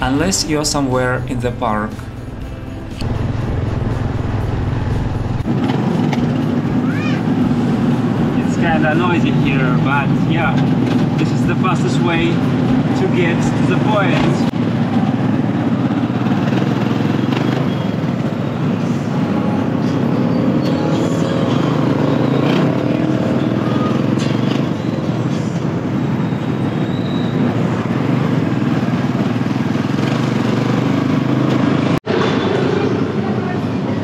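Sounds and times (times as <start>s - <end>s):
city traffic: 0.0s - 34.0s
tricycle taxi engine running: 0.0s - 34.0s.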